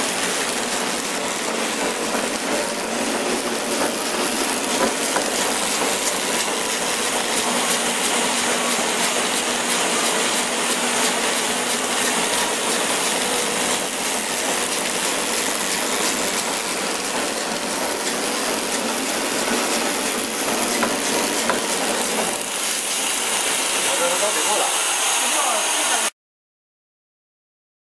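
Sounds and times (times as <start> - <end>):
packing machine hissing: 0.0 - 26.1.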